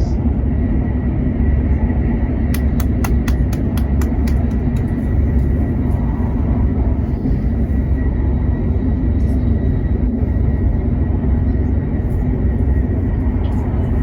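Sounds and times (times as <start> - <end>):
train cabin rumble: 2.4 - 14.0.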